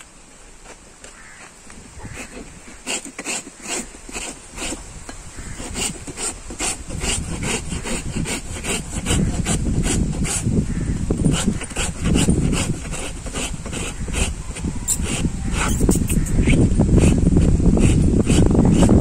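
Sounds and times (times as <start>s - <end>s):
rasp filing horse hoof: 0.6s - 19.0s.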